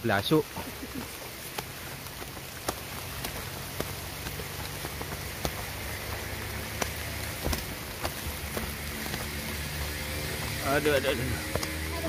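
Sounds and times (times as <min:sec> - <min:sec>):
rain falling: 0:00.0 - 0:12.0
sharp taps of raindrops: 0:00.0 - 0:12.0.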